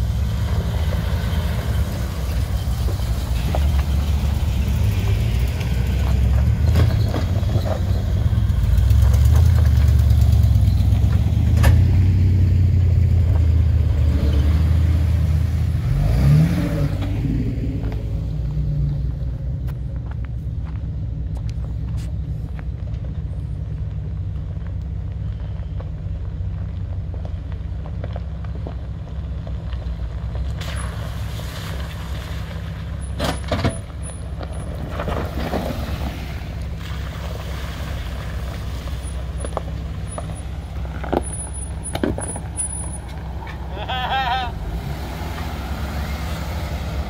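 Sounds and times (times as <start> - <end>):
low engine rumble: 0.0 - 47.0
tyres crackling over stones: 0.2 - 11.6, 17.2 - 47.0.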